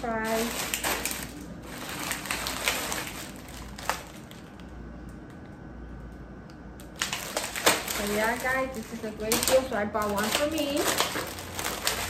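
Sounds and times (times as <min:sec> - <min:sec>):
plastic packages crinkling: 0:00.0 - 0:05.6, 0:06.8 - 0:12.0.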